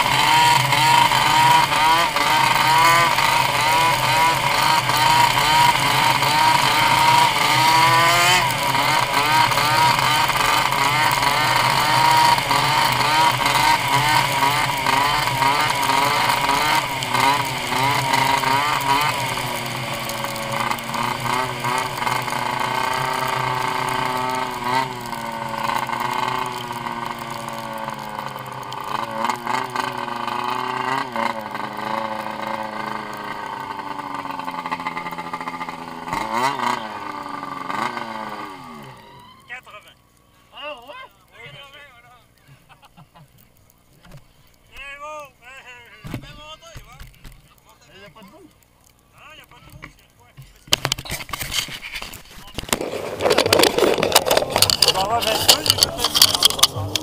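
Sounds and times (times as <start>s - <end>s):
snowmobile engine running: 0.0s - 39.9s, 50.8s - 57.0s.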